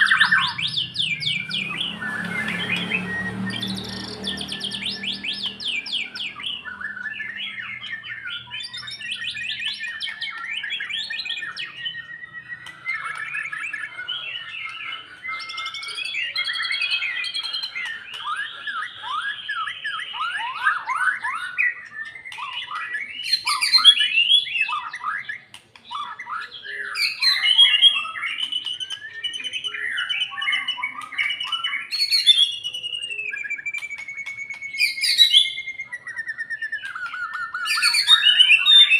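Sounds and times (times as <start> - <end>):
bird singing varied whistles: 0.0 - 38.9.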